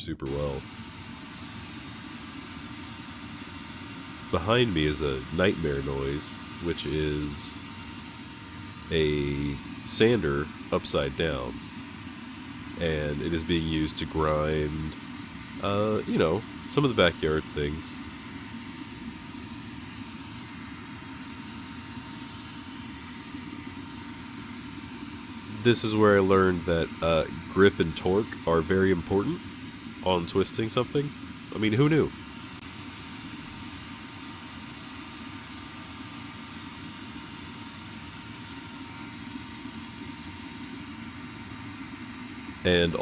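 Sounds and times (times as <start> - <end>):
forge burner roaring: 0.1 - 43.0
electric sander droning: 0.2 - 43.0.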